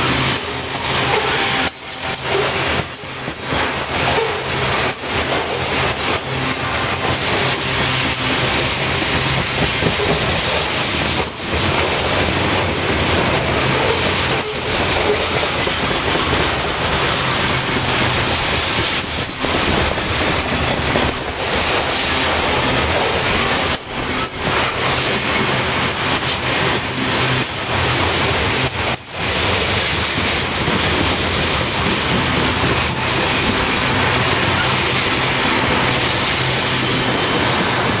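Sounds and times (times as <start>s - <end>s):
steel wheels on rail: 0.0s - 38.0s.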